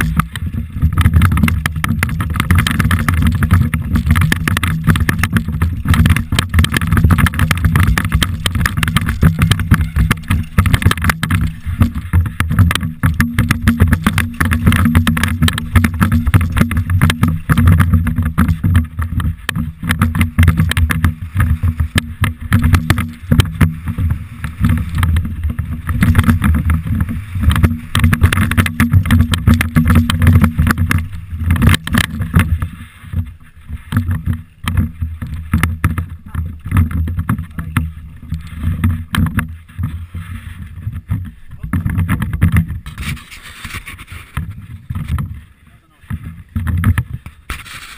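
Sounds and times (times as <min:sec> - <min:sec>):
wind buffeting microphone: 0:00.0 - 0:47.6
bike rattling over stones: 0:00.0 - 0:47.9.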